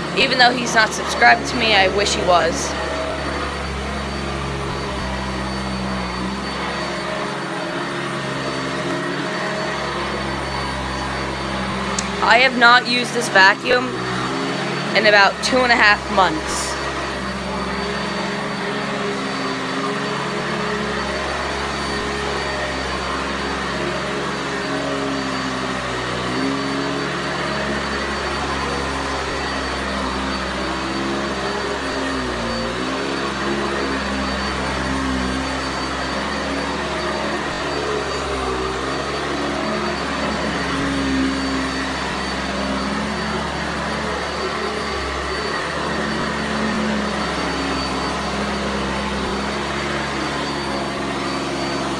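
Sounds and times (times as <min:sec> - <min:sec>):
upright vacuum cleaner running: 0:00.0 - 0:51.9.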